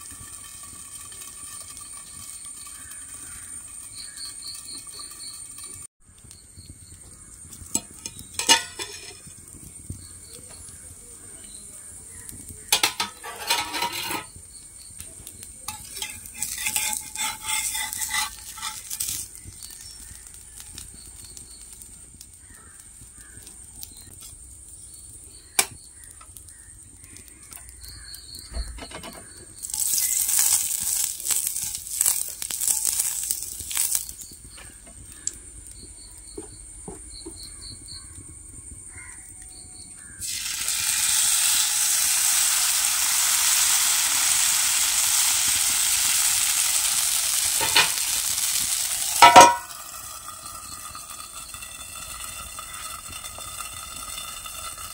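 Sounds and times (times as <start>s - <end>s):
metal clinking and scraping on pan: 0.0s - 5.9s, 7.2s - 10.8s, 11.4s - 24.4s, 25.3s - 37.6s, 40.0s - 54.9s
hissing sizzle from hot pan: 0.0s - 54.9s.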